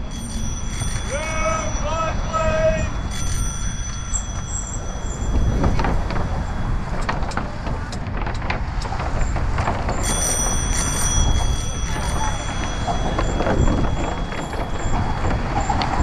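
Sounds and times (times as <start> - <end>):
bicycle rolling over wooden planks: 0.0 - 16.0
wind rumbling on camera: 0.0 - 16.0.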